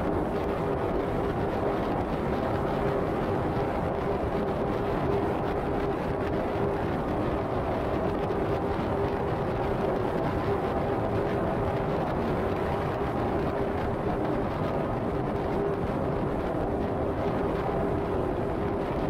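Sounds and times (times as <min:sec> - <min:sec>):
faint steady hum: 0:00.0 - 0:19.0
wind rush: 0:00.0 - 0:19.0.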